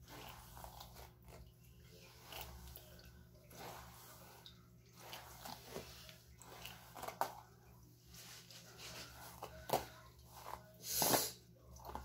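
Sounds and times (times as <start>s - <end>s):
hairbrush swishing through hair: 0.0s - 12.0s.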